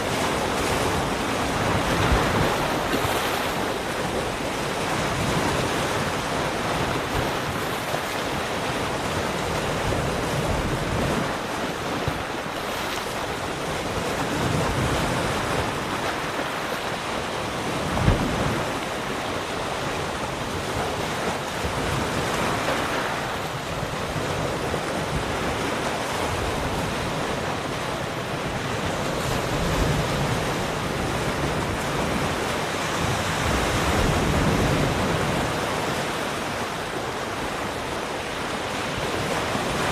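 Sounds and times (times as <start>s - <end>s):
ocean waves breaking on shore: 0.0s - 39.9s
wind noise on microphone: 0.0s - 39.9s.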